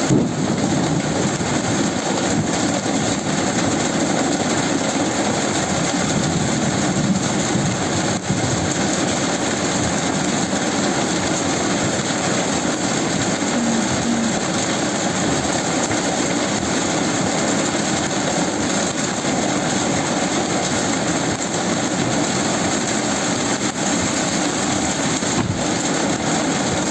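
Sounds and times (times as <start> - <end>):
heavy rain: 0.0 - 26.9.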